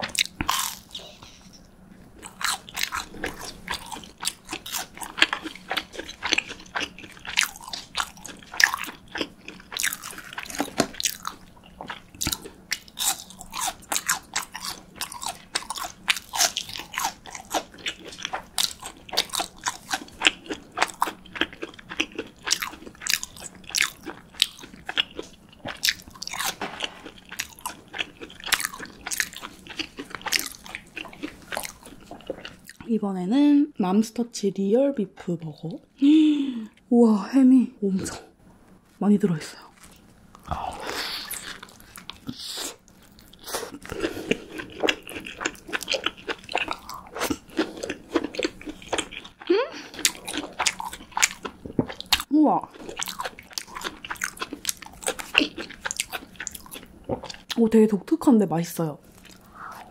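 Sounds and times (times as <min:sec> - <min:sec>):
crunching and chewing food: 0:00.0 - 0:32.9, 0:39.5 - 0:57.6, 0:59.0 - 0:59.9.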